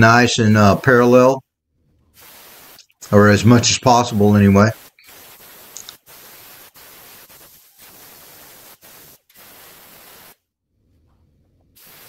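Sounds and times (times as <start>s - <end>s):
faint steady hiss: 2.0s - 12.0s.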